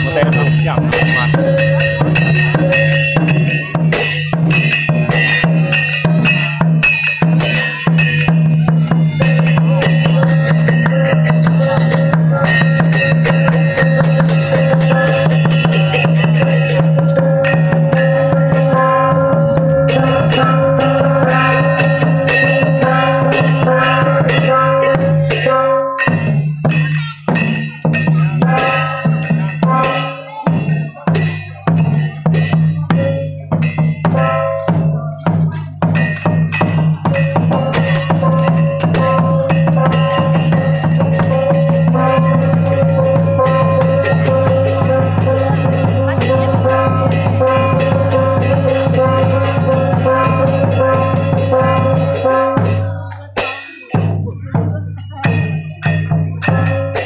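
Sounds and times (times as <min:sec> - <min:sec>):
steady ringing tone: 0:00.0 - 0:53.1
barrel drum: 0:00.0 - 0:57.0
ringing metal percussion: 0:00.0 - 0:57.0.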